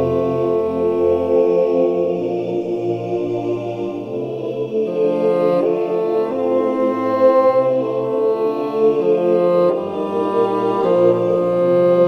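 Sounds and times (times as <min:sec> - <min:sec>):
bassoon: 0:00.0 - 0:12.0
synthetic choir chords: 0:00.0 - 0:12.0.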